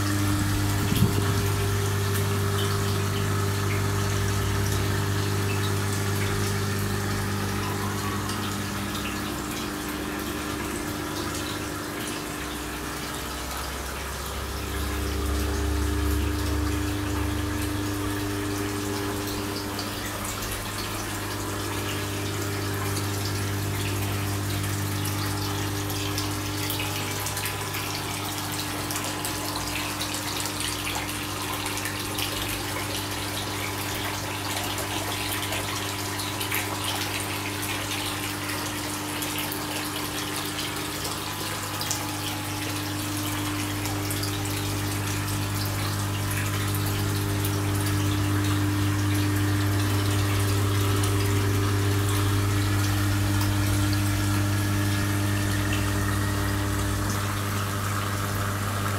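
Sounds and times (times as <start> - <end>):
pumps humming: 0.0 - 58.9
water bubbling and splashing: 0.0 - 58.9.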